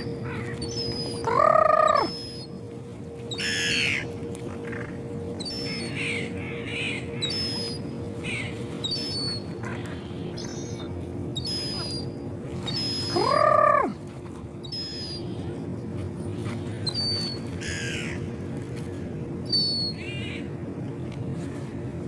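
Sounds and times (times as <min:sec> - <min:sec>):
seagulls calling: 0:00.0 - 0:15.7, 0:16.4 - 0:18.4, 0:19.4 - 0:20.6
steady low hum: 0:00.0 - 0:22.0.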